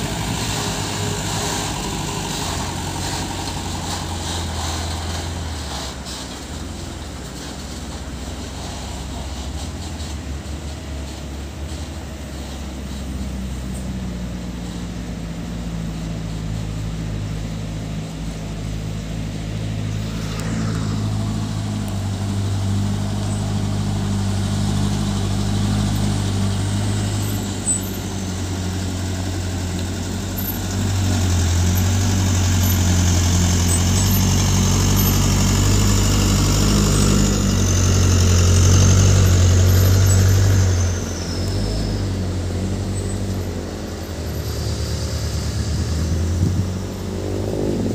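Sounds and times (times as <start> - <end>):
diesel trucks driving past: 0.0 - 47.9.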